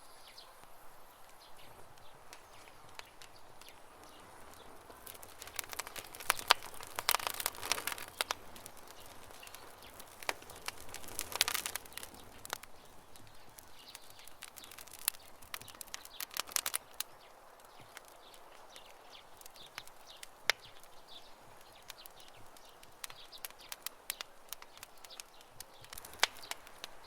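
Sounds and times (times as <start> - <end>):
campfire crackling: 0.0 - 27.0.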